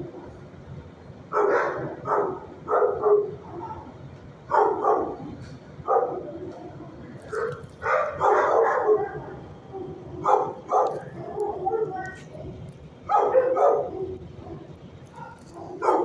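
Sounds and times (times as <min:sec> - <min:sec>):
dogs barking: 0:01.3 - 0:16.0.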